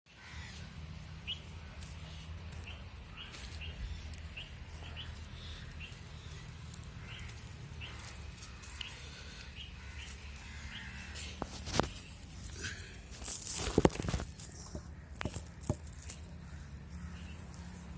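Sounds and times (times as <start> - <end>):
small birds chirping: 0.1 - 17.9.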